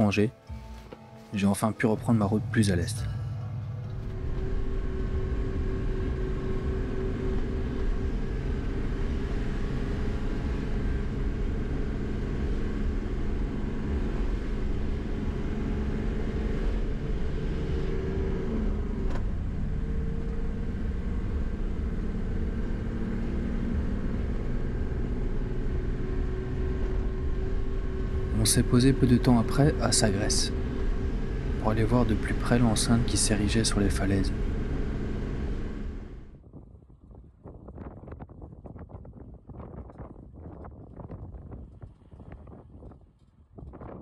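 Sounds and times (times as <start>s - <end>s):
van engine and road rumble: 0.0s - 44.0s.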